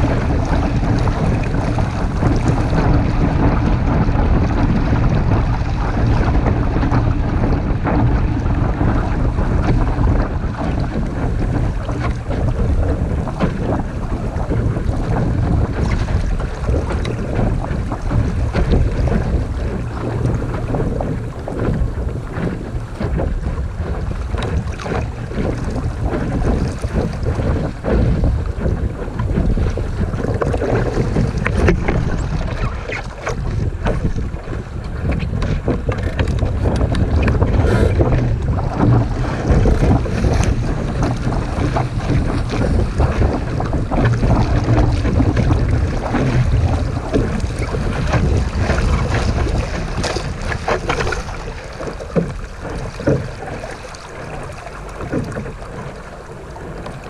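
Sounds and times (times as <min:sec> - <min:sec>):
water slapping against hull: 0:00.0 - 0:57.0
wind buffeting microphone: 0:00.0 - 0:57.0.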